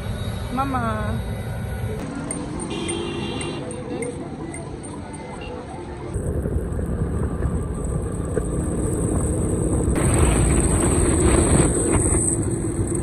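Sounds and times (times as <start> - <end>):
wind and road rumble: 1.2 - 13.0.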